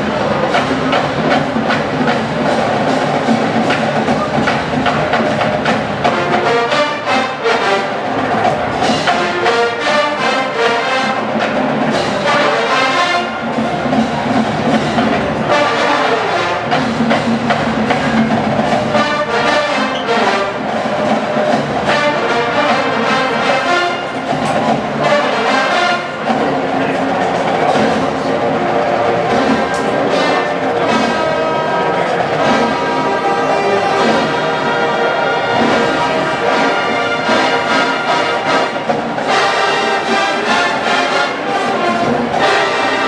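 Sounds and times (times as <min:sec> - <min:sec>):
brass melody: 0:00.0 - 0:43.0
marching percussion: 0:00.0 - 0:43.0.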